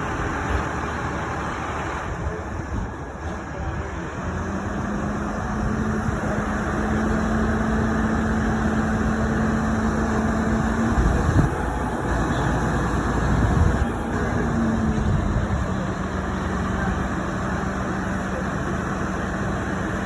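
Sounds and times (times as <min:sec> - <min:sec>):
crane diesel engine running: 0:00.0 - 0:20.0.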